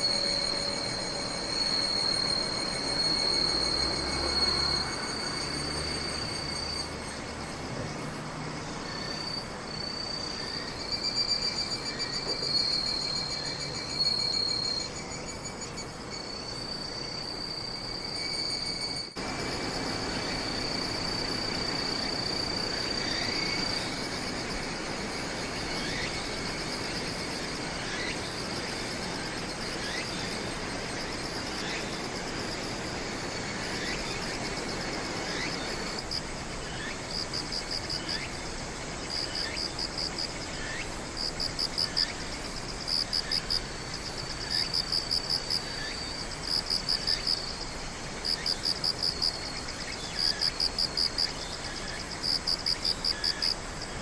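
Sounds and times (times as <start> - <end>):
insects chirping: 0.0 - 54.0
steady background hiss: 0.0 - 54.0.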